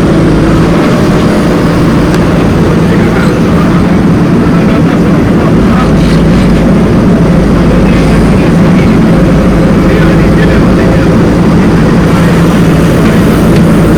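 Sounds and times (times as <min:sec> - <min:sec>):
heavy diesel engine droning: 0:00.0 - 0:13.9.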